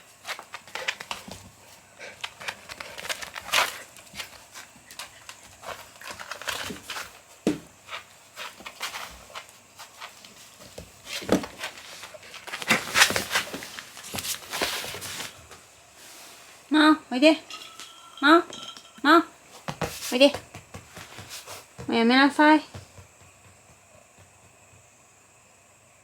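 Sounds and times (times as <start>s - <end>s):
kitten scuffling and rustling: 0.0s - 16.7s, 19.4s - 24.9s.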